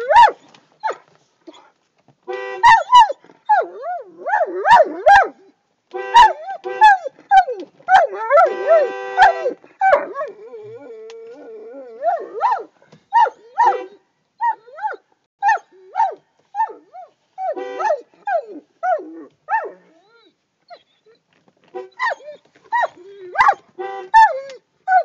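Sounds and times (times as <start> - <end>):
dog whining and yelping: 0.0 - 1.7, 2.6 - 5.5, 6.2 - 8.8, 9.4 - 21.3, 21.9 - 25.0.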